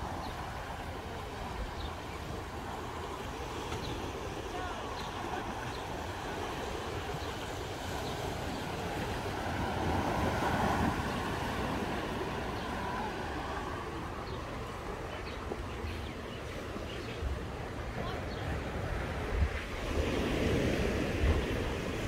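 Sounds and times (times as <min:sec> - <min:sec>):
ocean waves washing onto beach: 0:00.0 - 0:22.0
wind buffeting microphone: 0:00.0 - 0:22.0.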